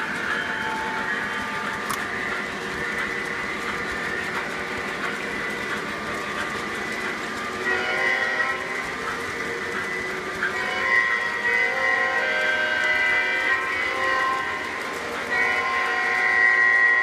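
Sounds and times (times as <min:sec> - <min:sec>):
model train motor whirring: 0:00.0 - 0:17.0.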